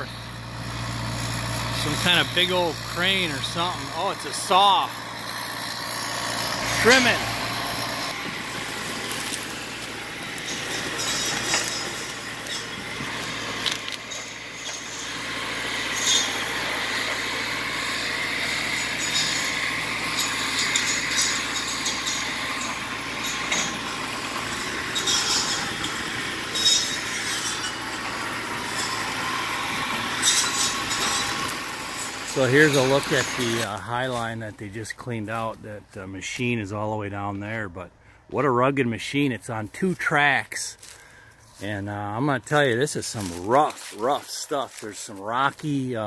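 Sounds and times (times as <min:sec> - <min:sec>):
tree-trimming saw machine running: 0:00.0 - 0:46.0.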